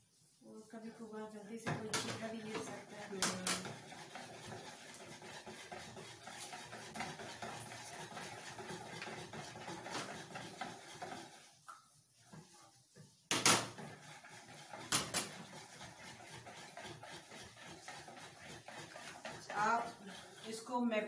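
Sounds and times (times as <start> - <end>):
whisk stirring batter in bowl: 0.0 - 21.0.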